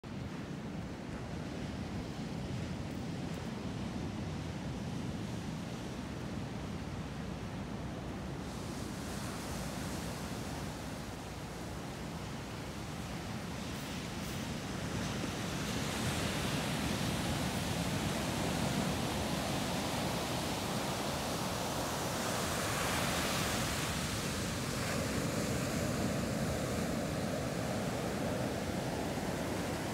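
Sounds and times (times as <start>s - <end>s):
ocean surf breaking on beach: 0.1s - 29.9s.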